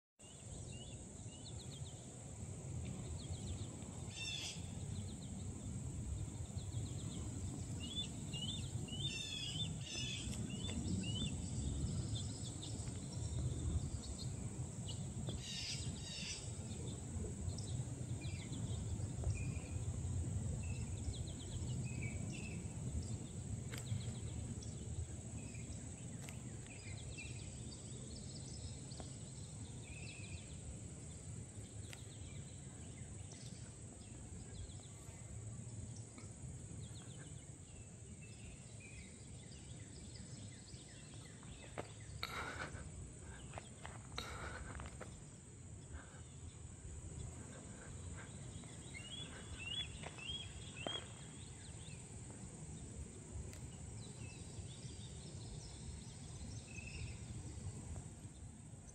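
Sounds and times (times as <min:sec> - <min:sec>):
high insect drone: 0:00.2 - 0:58.9.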